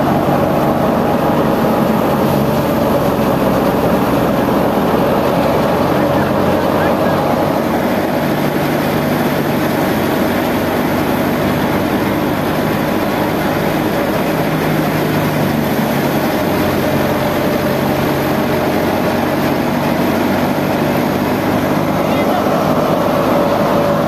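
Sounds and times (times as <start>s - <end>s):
thresher drum spinning: 0.0s - 24.0s
tractor diesel engine running: 0.0s - 24.0s.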